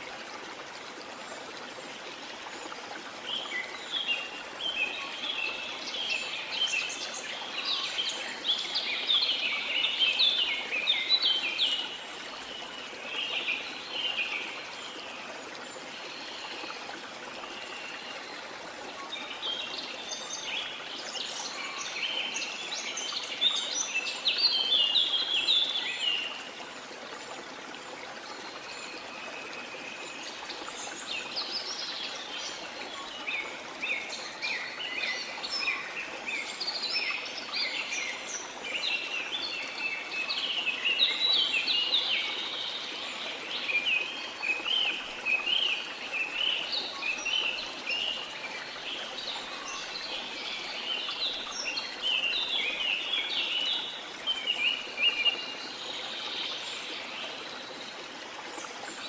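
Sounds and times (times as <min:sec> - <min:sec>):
rushing stream: 0:00.0 - 0:59.0.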